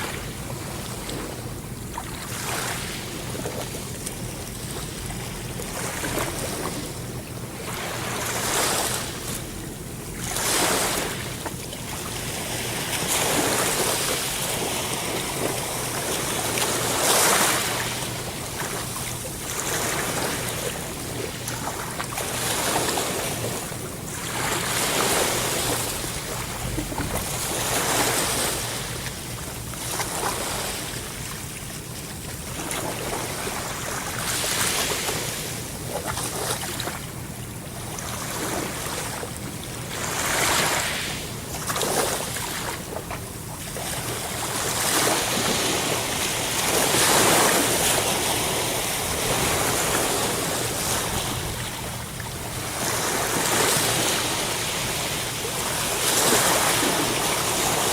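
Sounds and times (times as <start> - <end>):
ocean waves breaking on shore: 1.9 - 3.9, 4.5 - 9.4, 10.1 - 57.9.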